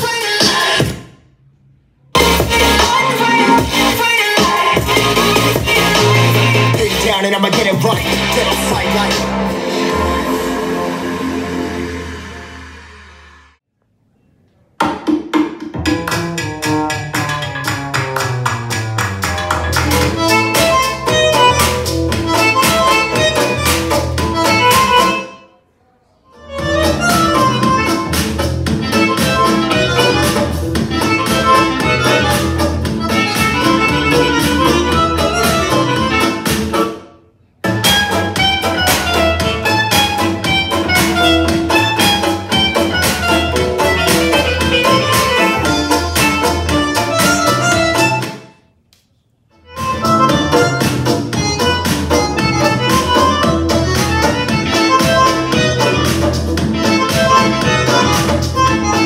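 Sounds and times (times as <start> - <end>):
instrumental music with heavy bass: 2.2 - 13.6, 15.1 - 25.4, 26.4 - 48.6, 49.6 - 59.0.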